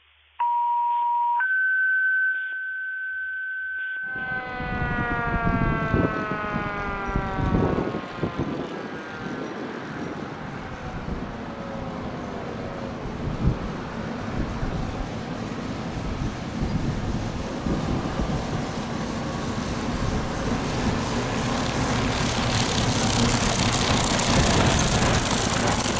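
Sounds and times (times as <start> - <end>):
engine rumble and road noise: 4.1 - 25.9
fire engine siren sliding down: 4.1 - 25.9.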